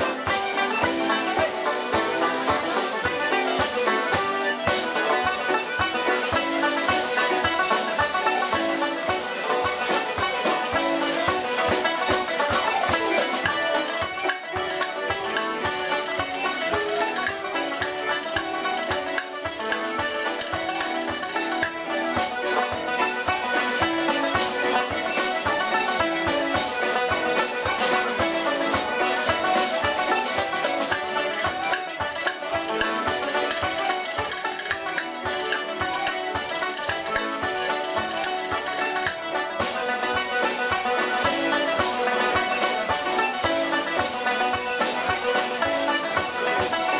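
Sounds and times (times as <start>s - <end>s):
lively folk music: 0.0s - 46.9s.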